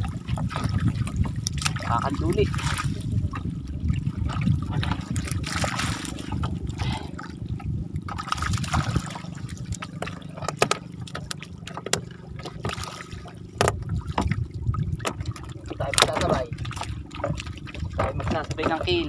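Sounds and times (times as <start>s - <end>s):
low unsteady rumble: 0.0s - 19.0s
water splashing and dripping: 0.0s - 19.0s.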